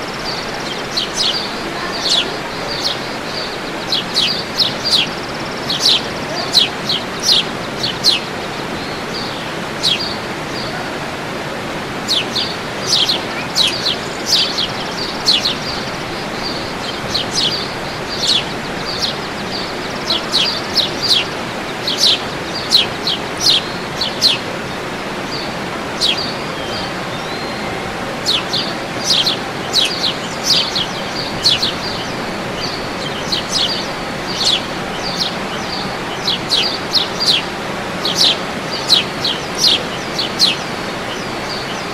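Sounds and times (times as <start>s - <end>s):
birds chirping: 0.0s - 41.9s
steady rushing noise: 0.0s - 41.9s.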